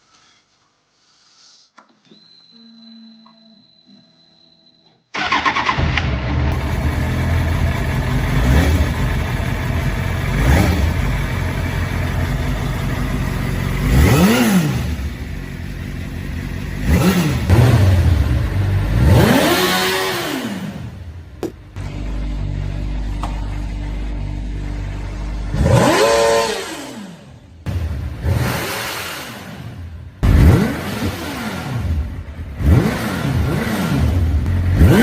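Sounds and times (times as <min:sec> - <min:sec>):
motorcycle engine revving: 0:05.2 - 0:35.0.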